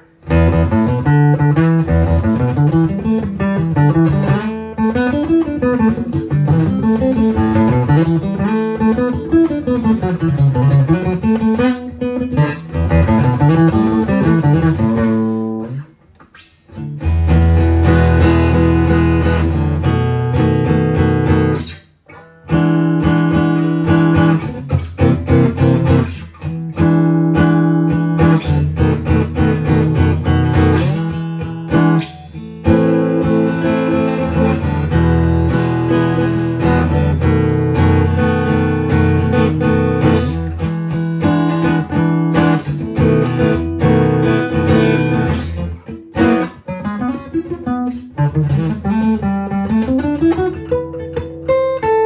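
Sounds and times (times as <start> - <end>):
amplified guitar strumming chords: 0.0 - 52.0.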